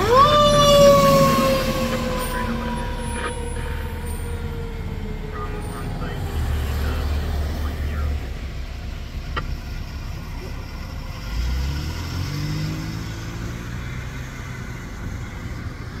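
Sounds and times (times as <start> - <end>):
vehicle engine rumbling and accelerating: 0.0 - 16.0.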